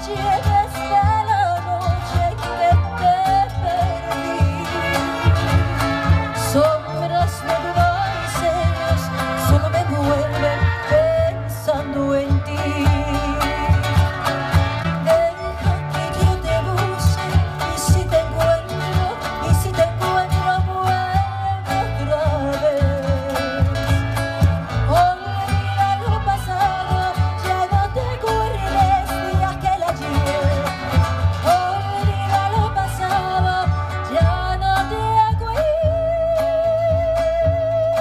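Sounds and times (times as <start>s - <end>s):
strummed guitars: 0.0s - 38.0s
woman singing with vibrato: 0.0s - 38.0s.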